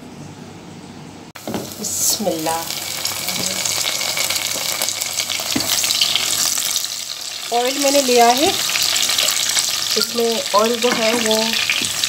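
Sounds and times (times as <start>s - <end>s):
onions sizzling in hot oil: 1.4s - 12.0s.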